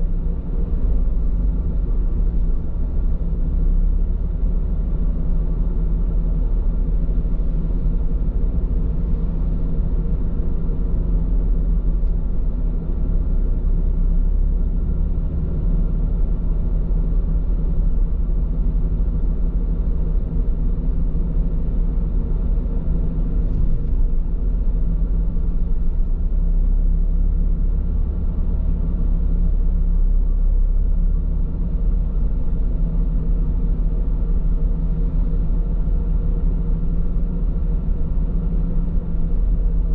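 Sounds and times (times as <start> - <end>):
car road rumble and engine hum: 0.0 - 39.9.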